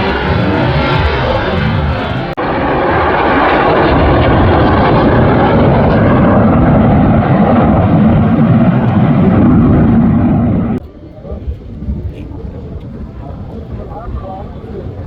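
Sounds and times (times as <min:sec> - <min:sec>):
aircraft engine: 0:00.0 - 0:15.0.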